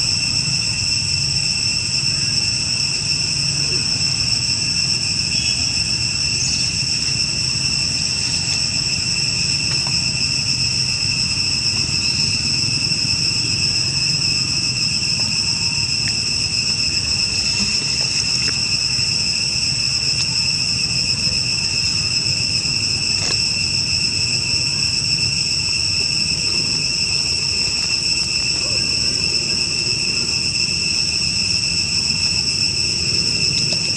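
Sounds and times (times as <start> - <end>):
insects droning: 0.0 - 33.9.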